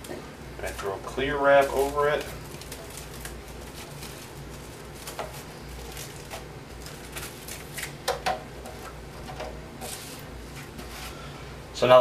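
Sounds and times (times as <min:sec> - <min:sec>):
plastic wrap crinkling: 0:00.0 - 0:11.2.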